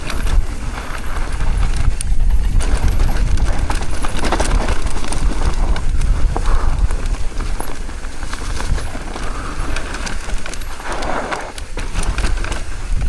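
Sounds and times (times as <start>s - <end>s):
mountain bike rattling: 0.0s - 13.0s
wind on microphone: 0.0s - 13.0s.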